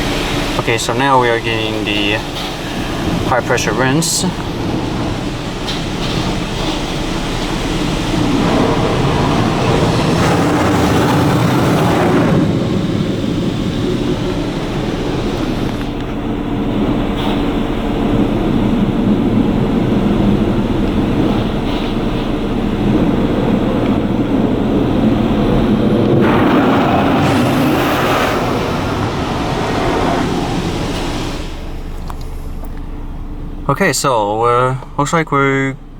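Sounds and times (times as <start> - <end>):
water spray rushing on vehicle: 0.0 - 32.8
low machine hum: 0.0 - 35.9.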